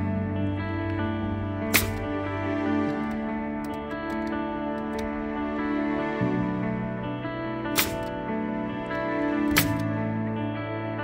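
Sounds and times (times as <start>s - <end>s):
music of sustained tones: 0.0s - 11.0s.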